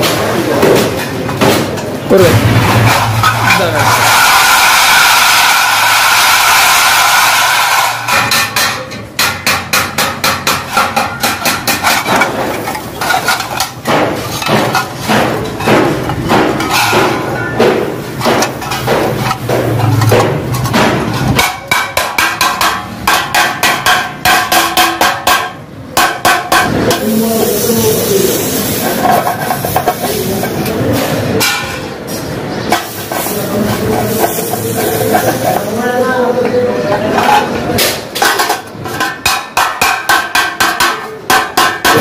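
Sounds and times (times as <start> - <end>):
hammer blows on sheet metal: 0.0 - 42.0.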